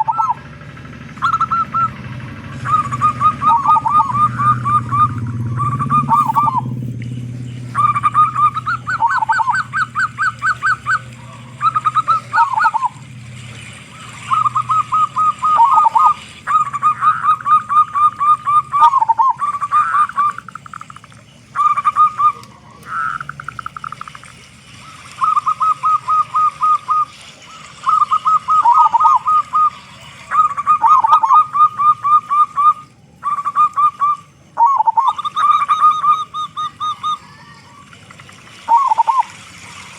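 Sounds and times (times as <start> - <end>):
dove cooing: 0.0 - 39.4.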